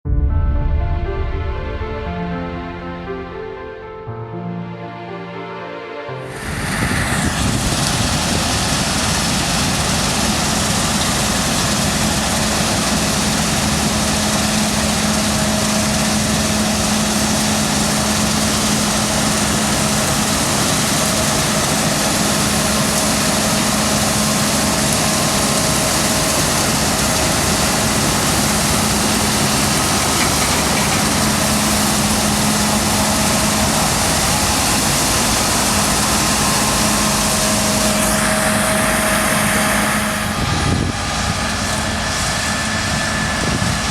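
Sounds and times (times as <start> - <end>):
combine harvester running: 6.1 - 43.9.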